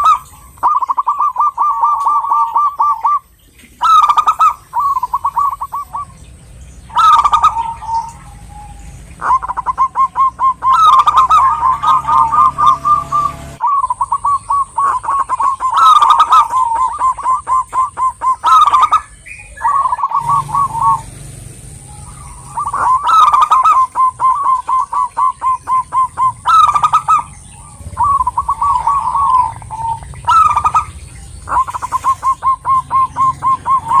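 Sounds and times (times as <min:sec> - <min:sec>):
dove cooing: 0:00.0 - 0:34.0.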